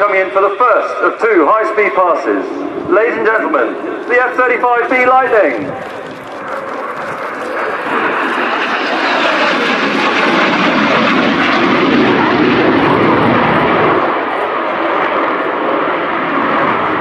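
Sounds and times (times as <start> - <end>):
jet flypast roar: 0.0 - 17.0.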